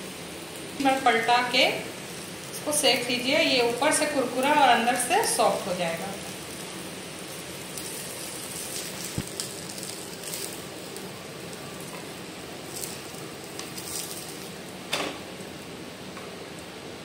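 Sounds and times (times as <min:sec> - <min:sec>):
pancake sizzling in pan: 0:00.0 - 0:17.0.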